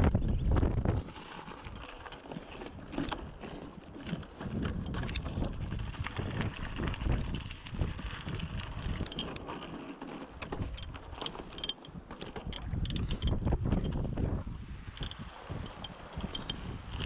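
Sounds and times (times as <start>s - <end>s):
wind buffeting microphone: 0.0s - 1.9s, 2.5s - 9.5s, 10.4s - 17.0s
bike clicks and rattles: 0.0s - 17.0s
bike tyres rolling on rocky dirt: 0.0s - 17.0s.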